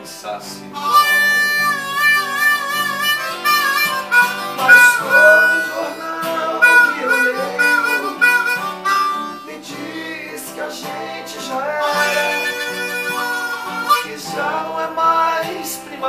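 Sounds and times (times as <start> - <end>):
man singing: 0.0 - 2.0, 4.1 - 16.0
acoustic guitar strumming: 0.0 - 16.0
harmonica: 0.0 - 16.0.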